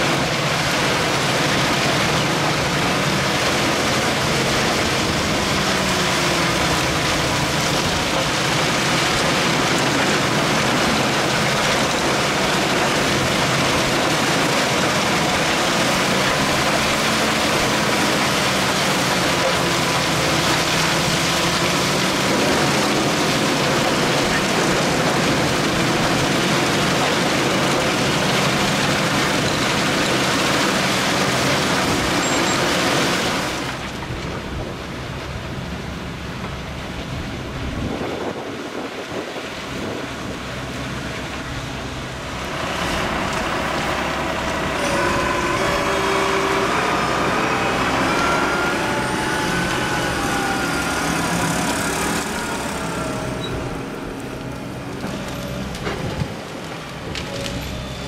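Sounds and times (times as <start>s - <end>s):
tractor engine: 0.0s - 58.0s
tractor engine with faint whine: 0.0s - 58.0s
wood chipper shredding: 0.0s - 58.0s.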